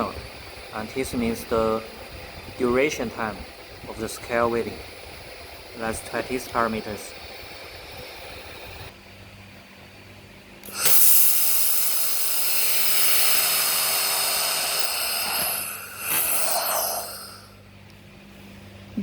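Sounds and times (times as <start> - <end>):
laser welder hissing buzz: 0.0 - 9.0, 10.6 - 17.8
faint steady hum: 0.0 - 19.0.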